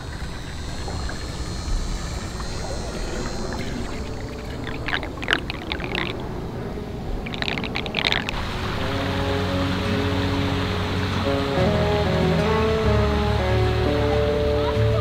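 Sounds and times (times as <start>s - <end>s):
water rushing down drain: 0.0s - 15.0s
water splashing: 0.0s - 15.0s.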